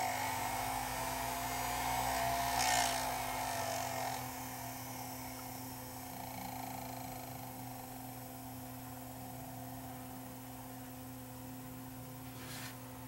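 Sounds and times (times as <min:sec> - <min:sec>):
faint motor whir: 0:00.0 - 0:13.0
steady low hum: 0:00.0 - 0:13.0.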